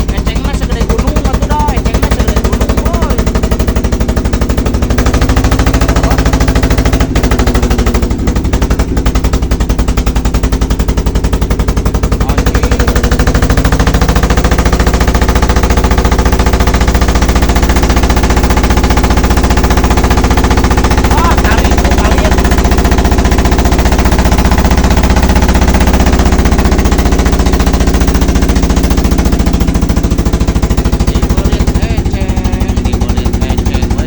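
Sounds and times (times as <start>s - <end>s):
boat engine running hard: 0.0s - 34.0s.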